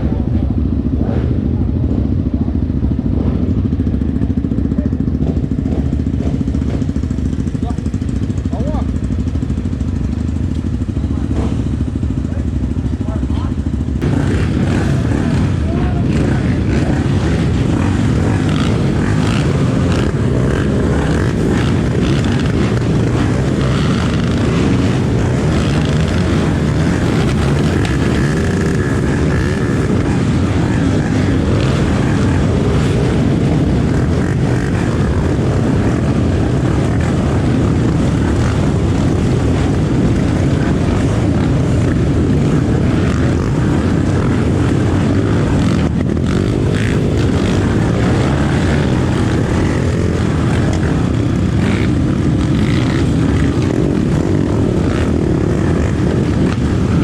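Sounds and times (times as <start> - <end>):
motorcycle engine running: 0.0 - 57.0
wind rush on camera: 0.0 - 57.0.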